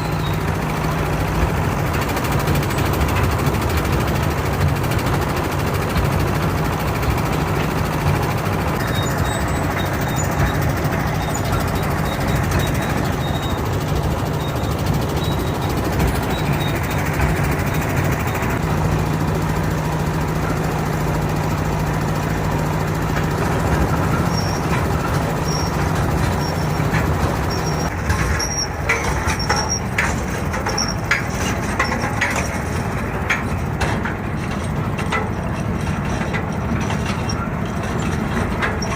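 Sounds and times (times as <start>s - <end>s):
sharp clicks and knocks: 0.0s - 18.7s, 22.8s - 38.9s
engine humming: 0.0s - 38.9s.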